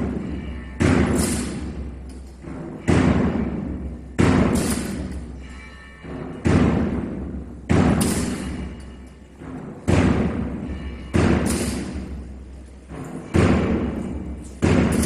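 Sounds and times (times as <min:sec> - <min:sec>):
heavy drum beats echoing: 0:00.0 - 0:15.0.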